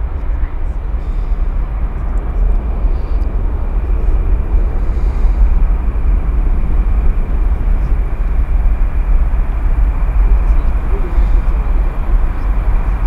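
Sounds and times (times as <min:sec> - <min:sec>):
jet engines at take-off thrust: 0:00.0 - 0:13.0.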